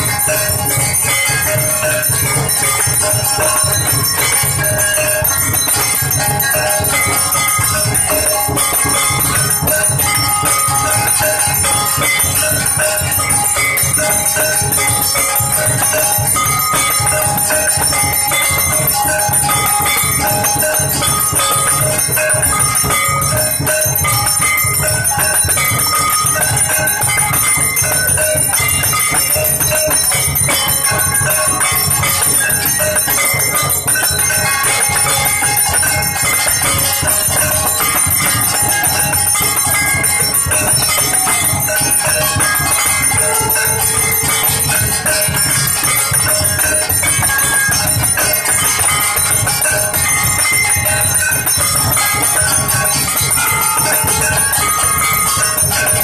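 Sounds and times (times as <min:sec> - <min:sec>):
bells ringing: 0:00.0 - 0:56.0.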